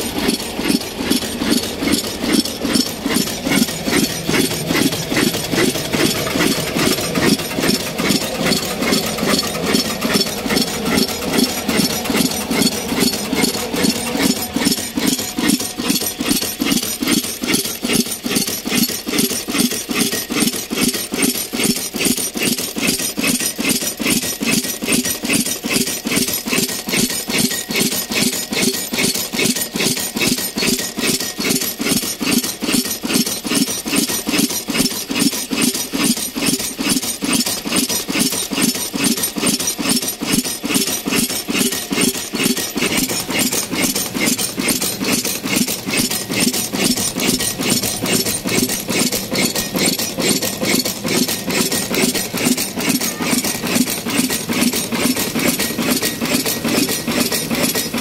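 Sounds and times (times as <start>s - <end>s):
stationary diesel engine running: 0.0s - 58.0s.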